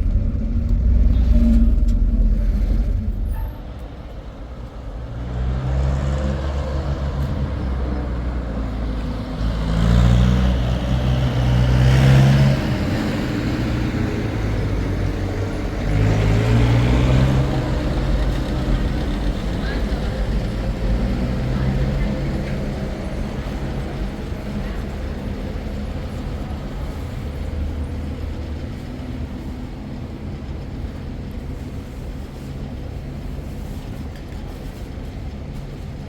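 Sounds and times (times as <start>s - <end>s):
motor vehicle engine running: 0.0s - 36.0s.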